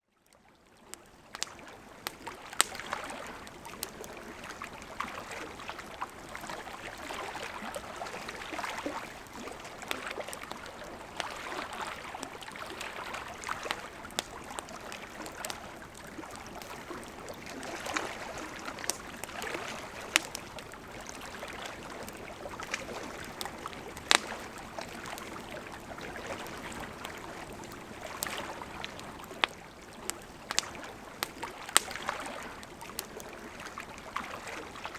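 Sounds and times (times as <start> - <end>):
campfire crackling and popping: 0.8 - 34.9
river flowing: 1.0 - 34.9.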